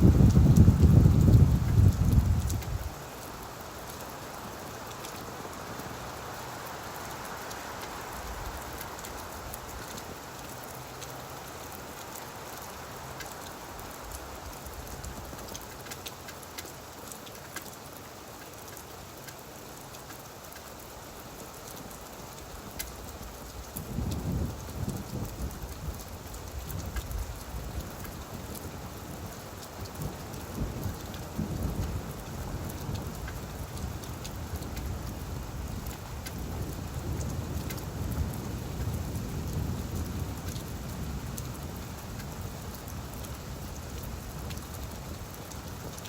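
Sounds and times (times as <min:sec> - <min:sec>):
rain falling on leaves: 0:00.0 - 0:46.0.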